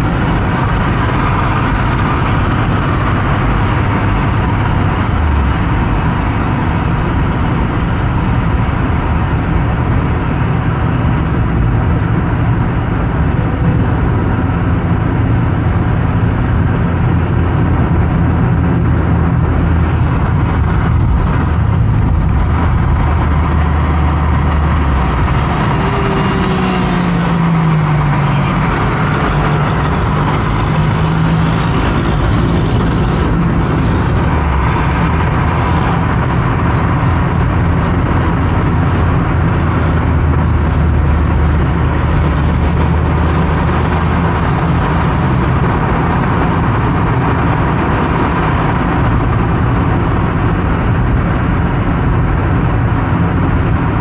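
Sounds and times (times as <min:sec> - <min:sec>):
car driving on highway: 0:00.0 - 0:54.0.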